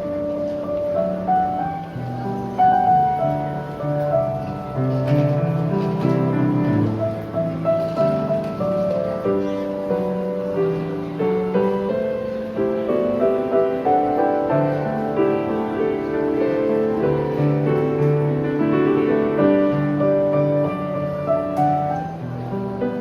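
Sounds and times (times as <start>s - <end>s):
slow solo piano: 0.0s - 23.0s.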